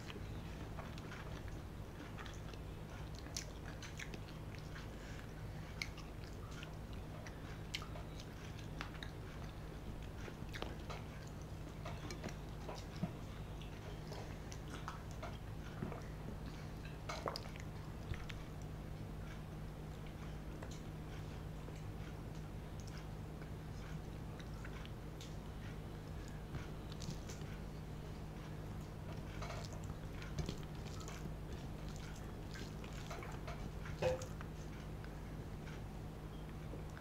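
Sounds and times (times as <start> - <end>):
chewing with mouth clicks: 0.0 - 37.0
faint low hum: 0.0 - 37.0.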